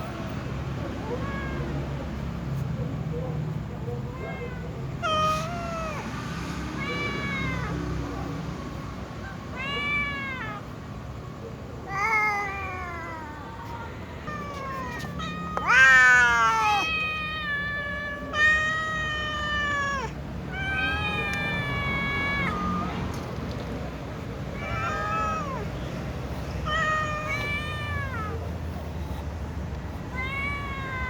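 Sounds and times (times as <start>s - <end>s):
cats meowing: 0.0s - 2.5s, 3.9s - 11.1s, 11.7s - 31.0s.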